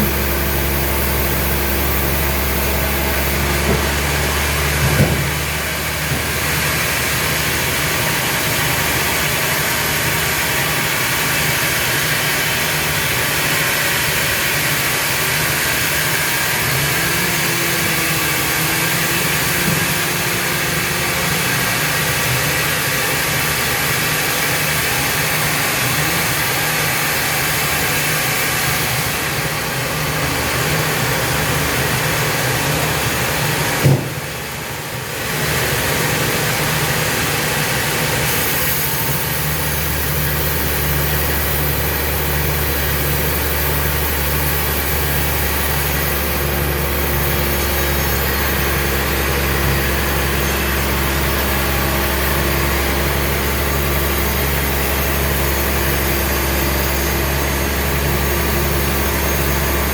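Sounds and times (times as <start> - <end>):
sawmill machinery humming and hissing: 0.0 - 59.9.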